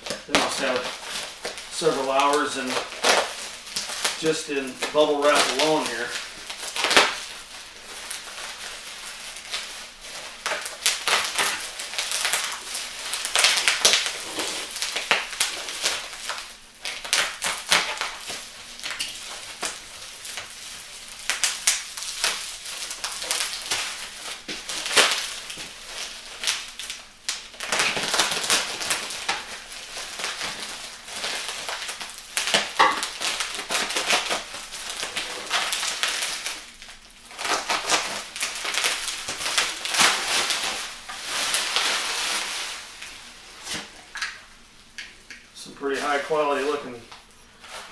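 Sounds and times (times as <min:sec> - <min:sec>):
knife cutting bubble wrap: 0:00.0 - 0:44.2, 0:47.6 - 0:47.9
plastic crinkling: 0:00.0 - 0:47.9.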